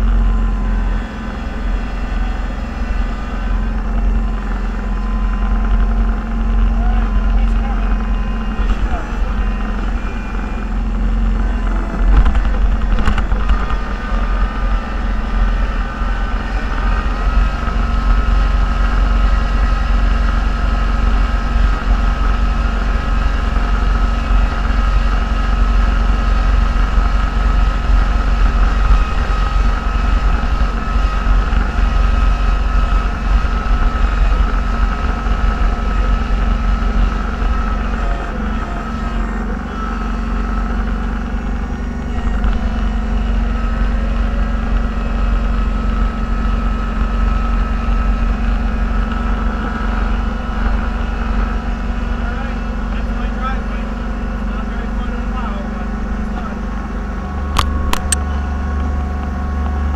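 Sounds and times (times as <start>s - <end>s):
high whine: 0.0s - 59.9s
vehicle engine running under load: 0.0s - 59.9s.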